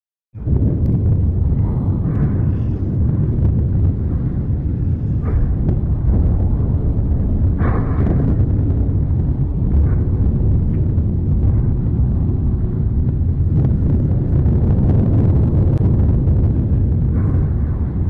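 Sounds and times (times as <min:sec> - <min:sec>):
lava fountain deep rumbling roar: 0:00.4 - 0:18.0.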